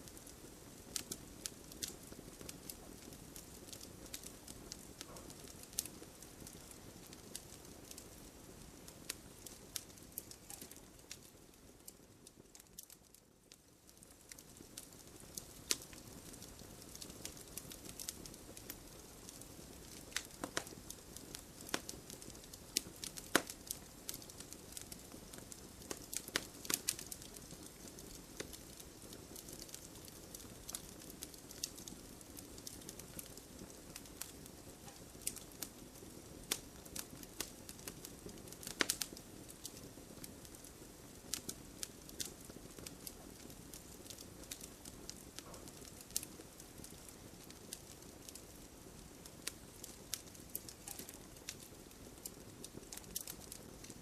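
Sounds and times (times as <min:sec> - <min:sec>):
campfire crackling and popping: 0:00.0 - 0:54.0
low hiss of burning: 0:00.0 - 0:54.0.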